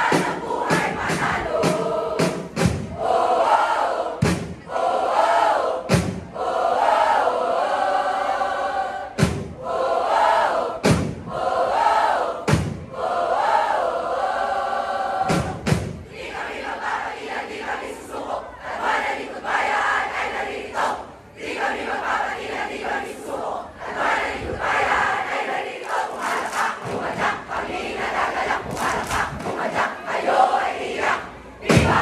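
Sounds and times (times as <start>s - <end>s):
group singing a cheer in unison: 0.0s - 32.0s.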